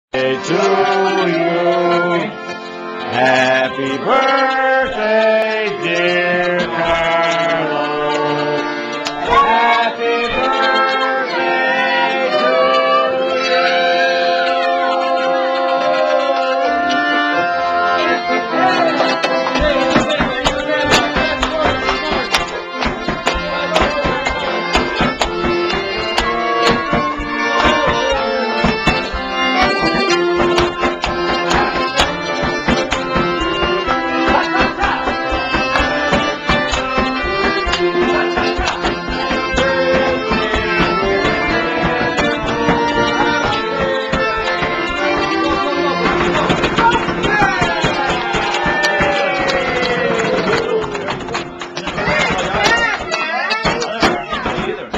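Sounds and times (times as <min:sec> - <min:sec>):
piano accordion playing lively tune: 0:00.0 - 0:54.9
sharp percussive beats: 0:00.2 - 0:15.2, 0:18.2 - 0:54.9.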